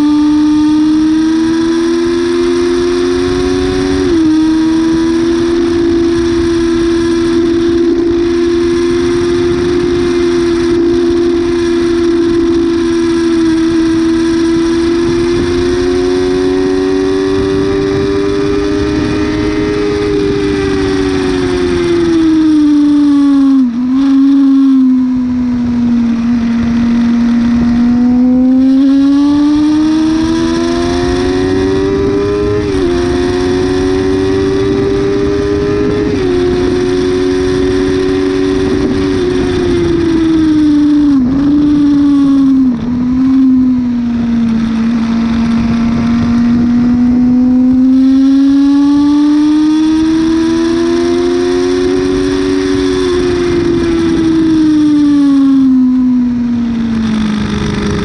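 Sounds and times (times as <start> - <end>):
motorcycle engine at high revs: 0.0 - 58.0
wind rush: 0.0 - 58.0.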